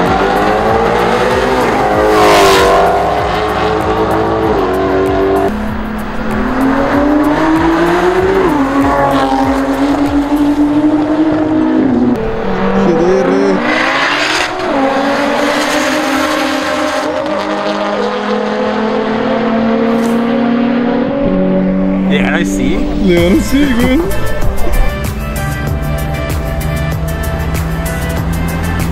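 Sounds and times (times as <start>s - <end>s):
drag racing cars accelerating: 0.0s - 28.9s.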